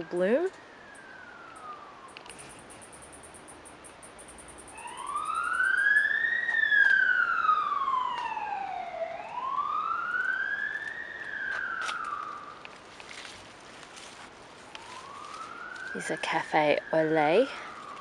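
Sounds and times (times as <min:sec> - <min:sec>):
emergency siren wailing: 0:00.0 - 0:03.4, 0:04.5 - 0:13.2, 0:14.6 - 0:18.0.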